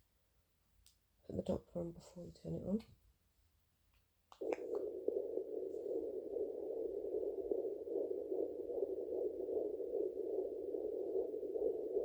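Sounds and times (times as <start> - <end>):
muffled static hiss: 0.0 - 12.0.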